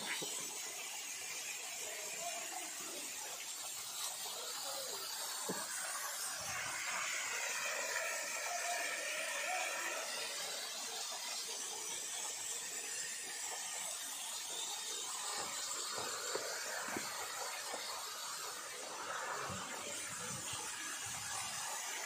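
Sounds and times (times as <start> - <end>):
waterfall rushing hiss: 0.0 - 22.0.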